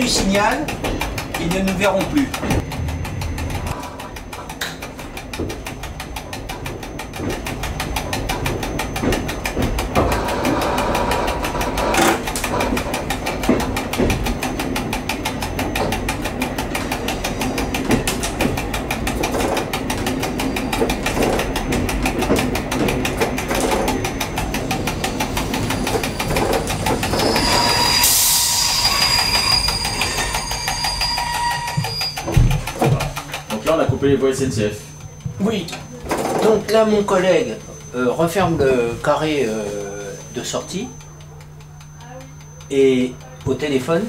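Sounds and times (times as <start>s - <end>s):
diesel railcar engine ticking: 0.0s - 44.0s
high steady squeal: 1.4s - 44.0s.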